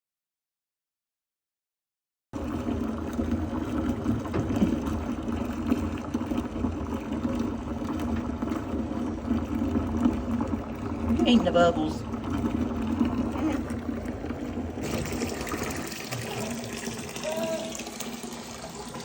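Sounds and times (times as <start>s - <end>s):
bathwater running and sloshing: 2.4s - 19.0s.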